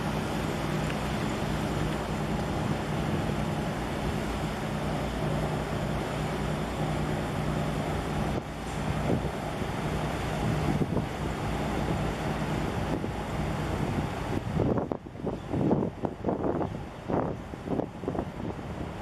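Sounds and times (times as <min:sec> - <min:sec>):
large ship humming: 0:00.0 - 0:19.0
water rushing: 0:00.0 - 0:19.0.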